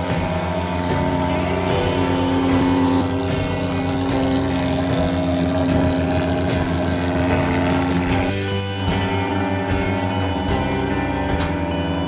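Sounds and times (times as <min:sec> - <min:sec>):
pulse-jet fogger running: 0:00.0 - 0:12.0.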